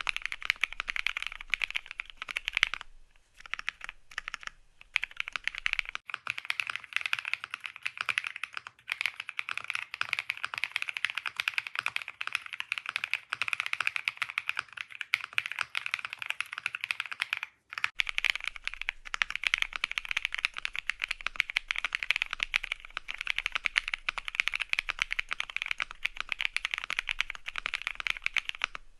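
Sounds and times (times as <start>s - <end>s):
mechanical keyboard typing: 0.0s - 28.8s.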